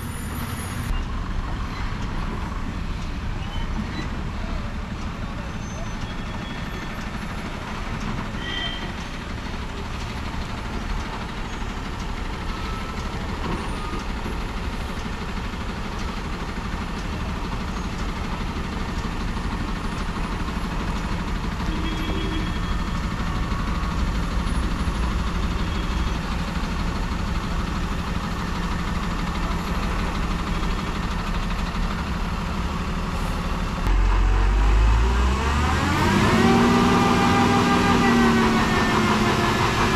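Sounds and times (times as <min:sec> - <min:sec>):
diesel lorry engine rumble: 0:00.0 - 0:39.9.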